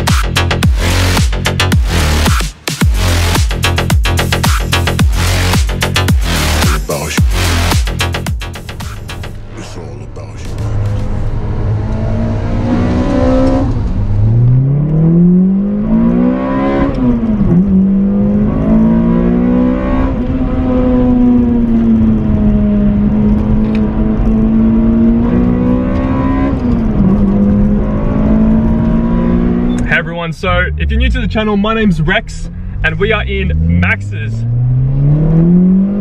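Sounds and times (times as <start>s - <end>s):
car engine accelerating hard: 0.0s - 36.0s.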